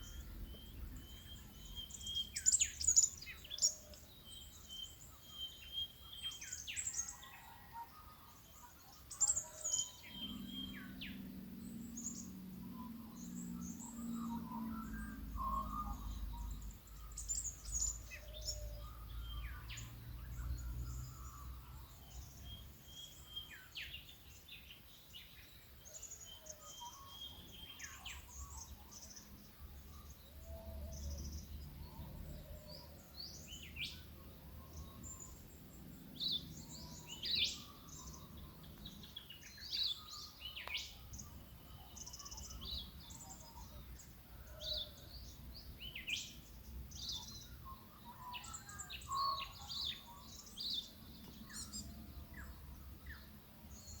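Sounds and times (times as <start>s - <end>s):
birds chirping and calling: 0.0s - 24.4s, 25.9s - 54.0s.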